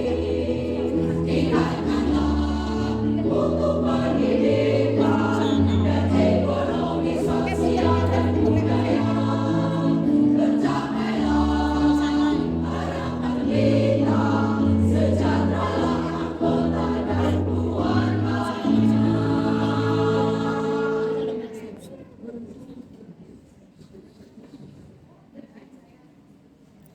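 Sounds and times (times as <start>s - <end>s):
choir singing with accompaniment: 0.0s - 21.8s.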